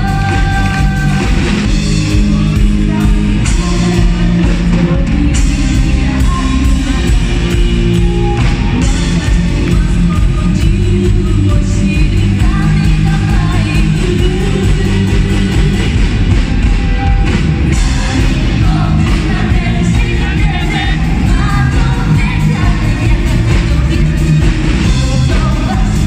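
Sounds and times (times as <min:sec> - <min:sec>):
live rock band playing: 0:00.0 - 0:26.0
woman singing lead: 0:00.0 - 0:26.0.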